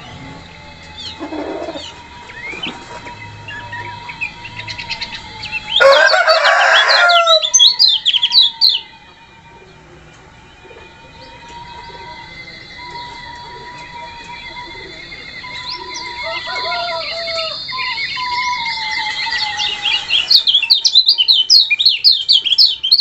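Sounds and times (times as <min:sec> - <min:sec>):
songbird chirping and twittering: 0:00.0 - 0:23.0.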